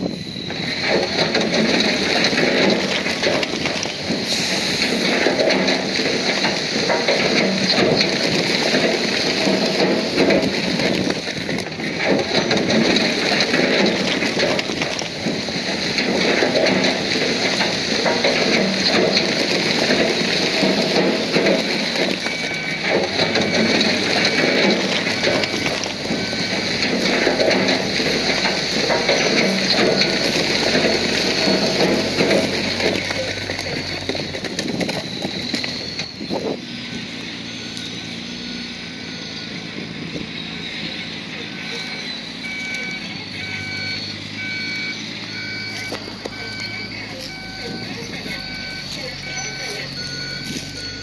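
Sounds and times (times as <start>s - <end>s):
bulldozer grinding rock: 0.0s - 51.0s.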